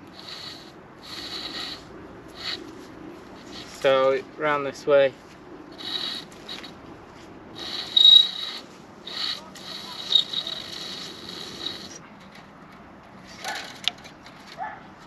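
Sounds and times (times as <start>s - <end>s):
wire scraping around wooden post: 0.0s - 4.1s, 5.7s - 6.9s, 7.5s - 14.8s.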